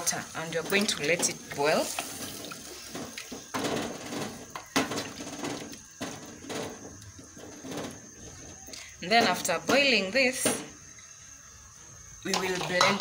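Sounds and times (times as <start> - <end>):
wooden spoon stirring in metal pot: 0.0 - 10.4, 12.2 - 13.0.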